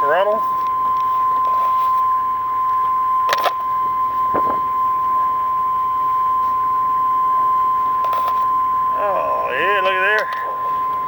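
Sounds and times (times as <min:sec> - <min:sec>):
high warning buzzer tone: 0:00.0 - 0:11.0.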